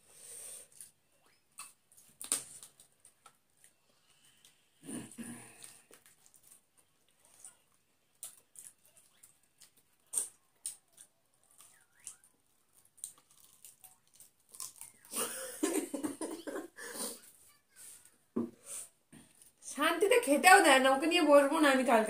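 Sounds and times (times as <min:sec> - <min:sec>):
soft chewing: 0:00.4 - 0:15.3, 0:16.0 - 0:19.6.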